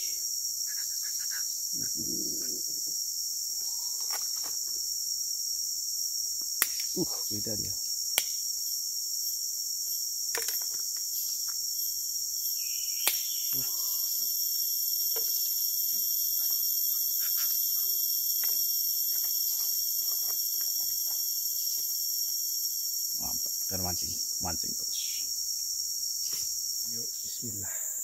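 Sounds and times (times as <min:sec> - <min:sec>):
forest insects shrilling: 0:00.0 - 0:28.0.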